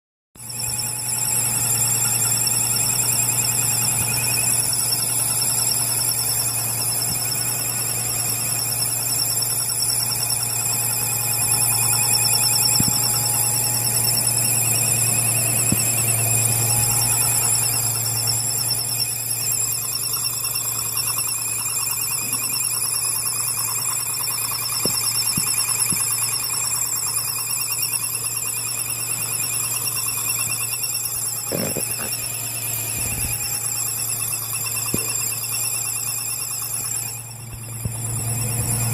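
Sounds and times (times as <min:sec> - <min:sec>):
high-pitched warbling engine whine: 0:00.4 - 0:38.9.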